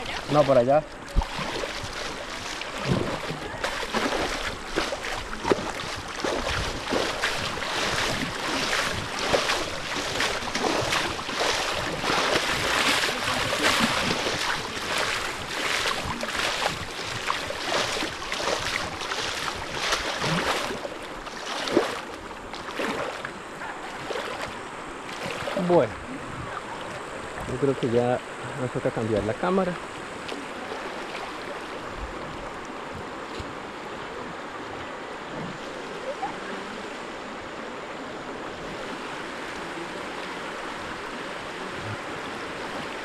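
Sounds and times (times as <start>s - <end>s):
river water rushing and splashing: 0.0s - 43.0s.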